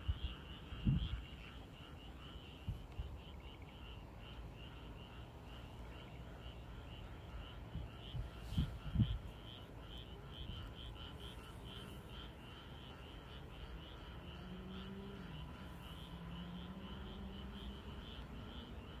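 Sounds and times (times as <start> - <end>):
frogs calling: 0.0 - 19.0.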